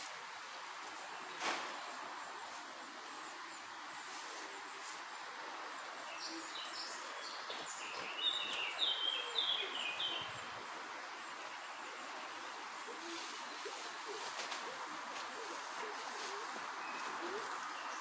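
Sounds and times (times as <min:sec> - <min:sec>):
outdoor background hiss: 0:00.0 - 0:18.0
songbird chirping: 0:00.0 - 0:18.0.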